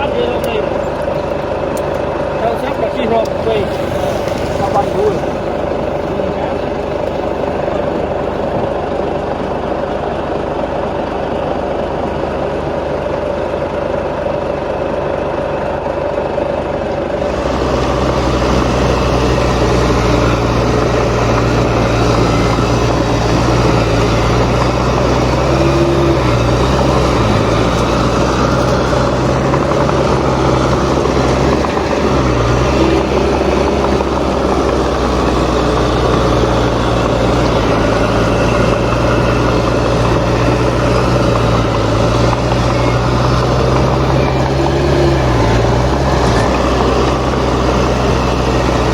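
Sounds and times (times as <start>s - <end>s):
heavy diesel engines running: 0.0s - 48.9s.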